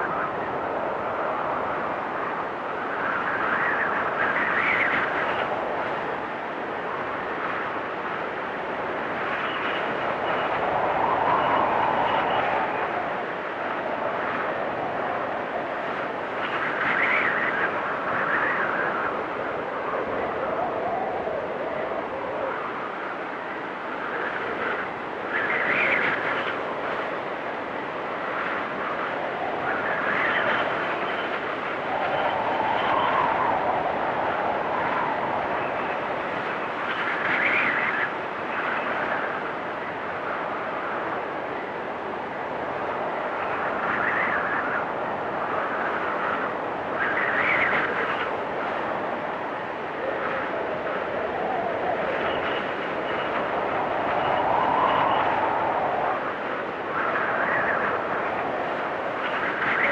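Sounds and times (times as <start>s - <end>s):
storm wind howling: 0.0s - 59.9s.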